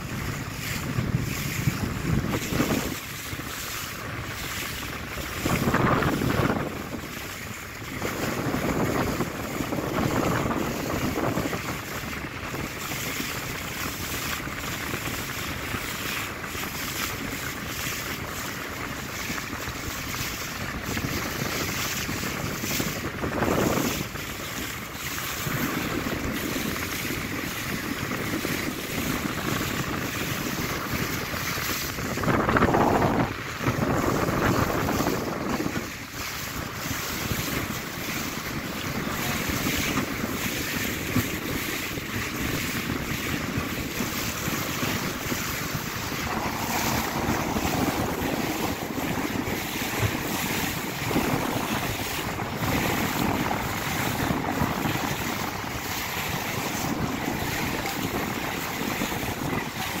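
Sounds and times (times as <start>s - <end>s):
water washing and splashing: 0.0s - 60.0s
wind buffeting microphone: 0.0s - 60.0s.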